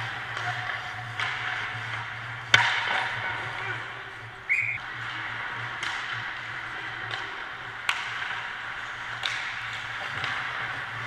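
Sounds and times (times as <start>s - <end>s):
hockey sticks and puck clacking: 0.0s - 11.0s
skates on ice: 0.0s - 11.0s.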